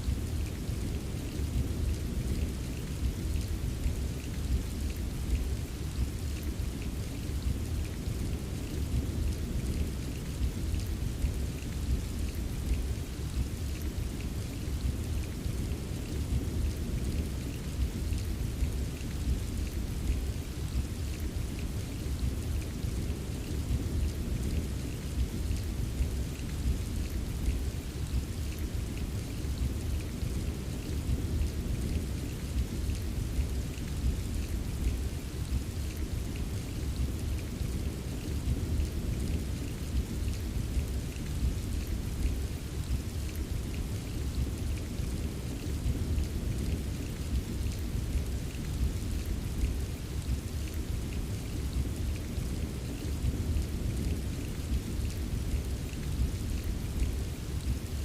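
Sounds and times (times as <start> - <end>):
gentle rolling thunder: 0.0 - 58.0
steady rain: 0.0 - 58.0.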